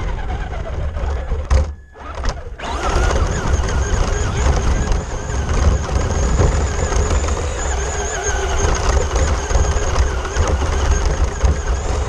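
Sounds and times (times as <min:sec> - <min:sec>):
heavy uneven rumble: 0:00.0 - 0:12.0
toy car motor whining: 0:00.0 - 0:12.0.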